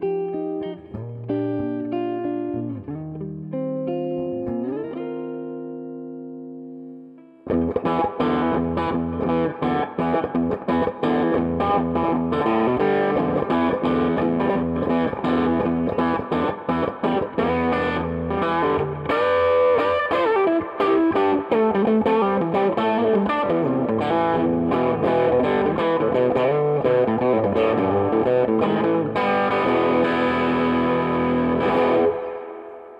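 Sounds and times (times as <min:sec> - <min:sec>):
electric guitar through amplifier: 0:00.0 - 0:32.9.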